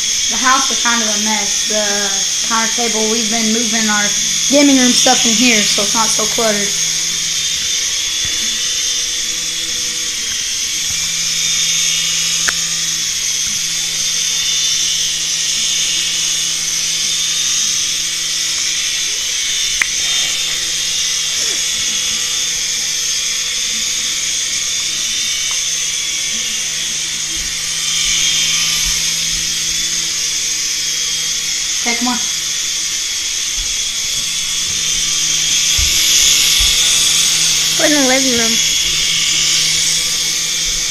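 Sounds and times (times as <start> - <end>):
toy helicopter rotors whirring: 0.0 - 40.9.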